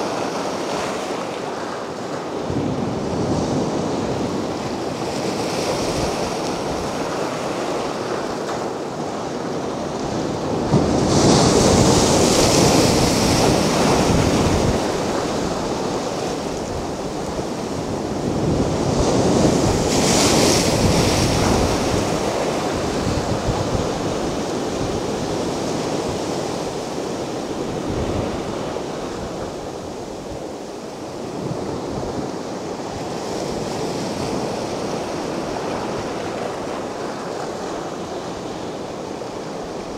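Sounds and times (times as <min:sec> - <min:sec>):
sea waves breaking on beach: 0:00.0 - 0:39.9
wind on microphone: 0:00.0 - 0:39.9.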